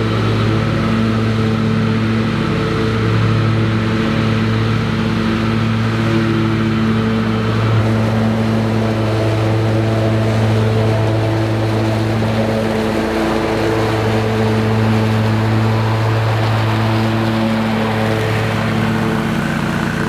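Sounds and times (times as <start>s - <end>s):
lawn mower running: 0.0s - 20.0s.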